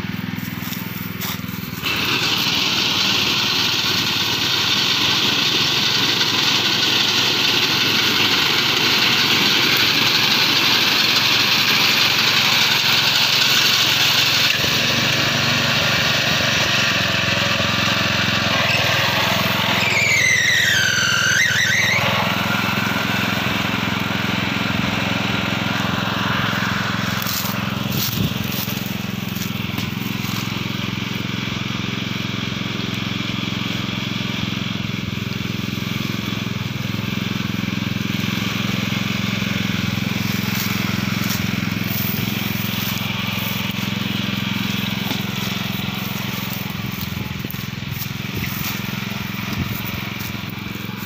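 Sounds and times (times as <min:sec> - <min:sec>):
reaper engine running: 0:00.0 - 0:51.0.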